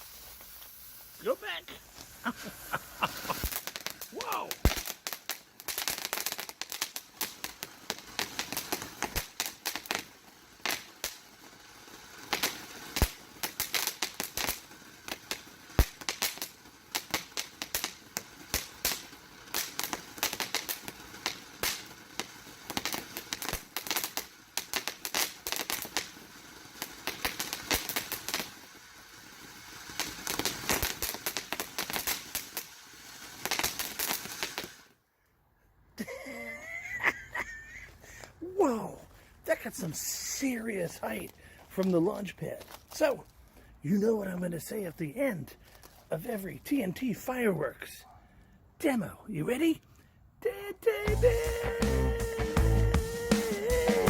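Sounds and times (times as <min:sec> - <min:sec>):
firework crackling pops: 0:00.0 - 0:35.0, 0:38.2 - 0:44.4, 0:50.5 - 0:54.0
firework fountain hissing: 0:00.0 - 0:35.0, 0:36.0 - 0:47.4, 0:50.4 - 0:54.0.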